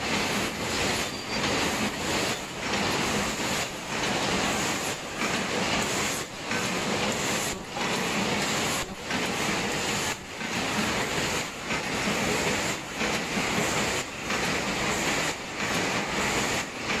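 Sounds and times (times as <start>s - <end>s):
machine clattering rhythmically: 0.0s - 17.0s.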